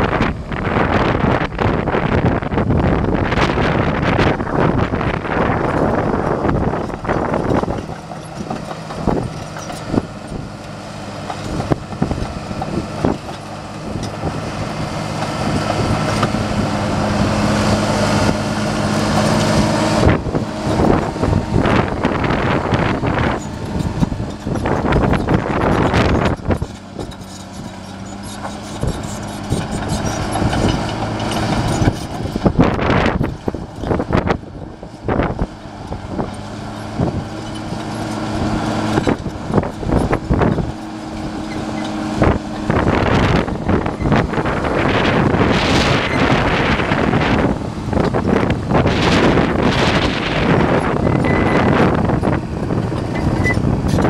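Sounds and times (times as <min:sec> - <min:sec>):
bulldozer diesel engine: 0:00.0 - 0:54.0
blade pushing dirt and stones: 0:03.4 - 0:54.0
steel tracks knocking and rattling: 0:03.6 - 0:54.0.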